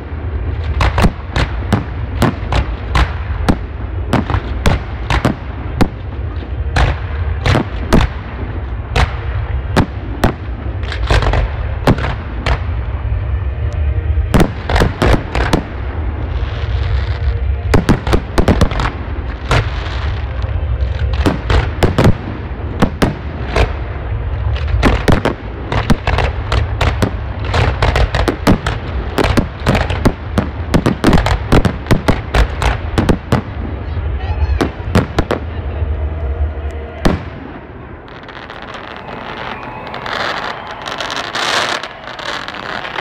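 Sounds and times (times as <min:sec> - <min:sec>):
fireworks bursting with sharp bangs: 0:00.0 - 0:43.0
low rumble: 0:00.0 - 0:43.0.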